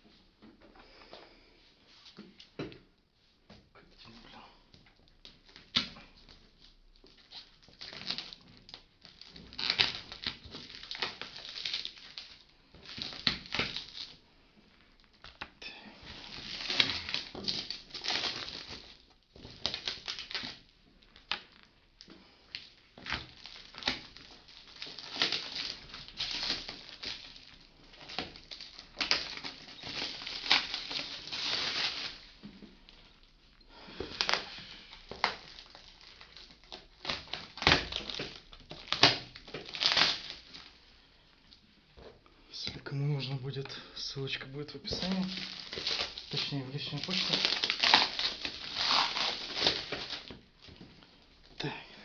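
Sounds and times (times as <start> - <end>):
packaging rustling and crinkling: 5.0 - 14.2, 14.8 - 40.8, 44.7 - 51.6.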